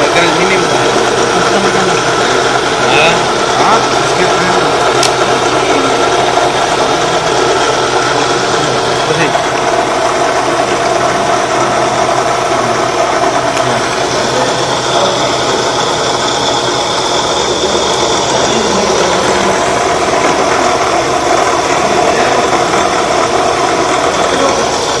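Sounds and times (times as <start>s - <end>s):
electric motor running: 0.0s - 25.0s.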